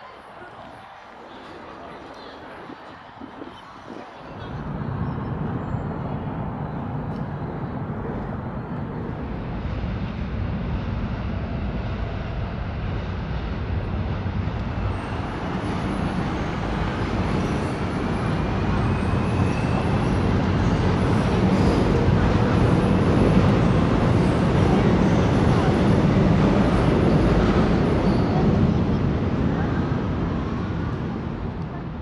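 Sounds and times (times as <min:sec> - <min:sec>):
traffic on bridge: 0:00.0 - 0:32.0
train rumble: 0:00.0 - 0:32.0.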